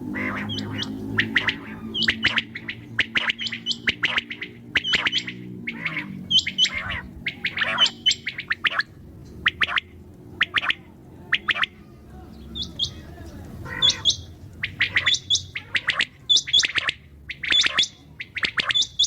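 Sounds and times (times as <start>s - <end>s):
low steady hum: 0.0s - 19.0s
quail calling: 0.0s - 19.0s.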